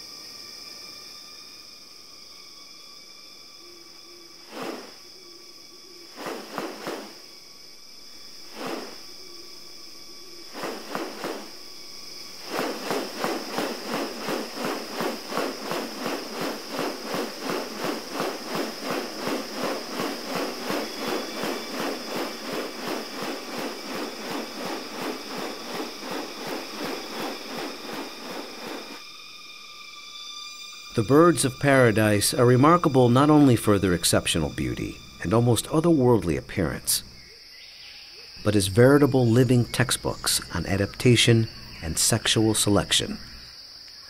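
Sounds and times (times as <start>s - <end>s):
high-pitched insect drone: 0.0s - 44.0s
rhythmic insect pulsing: 0.0s - 44.0s.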